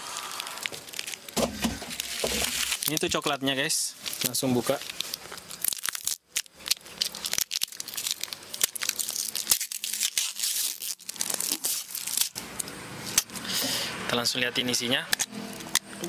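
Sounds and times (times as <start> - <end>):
plastic seal tearing and crinkling: 0.0 - 13.4.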